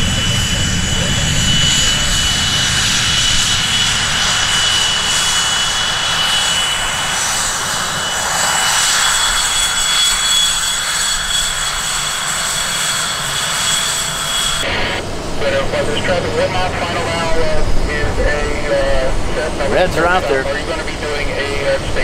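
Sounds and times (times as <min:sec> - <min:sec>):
high whine: 0:00.0 - 0:21.2
piston aircraft engines roaring: 0:00.0 - 0:22.0.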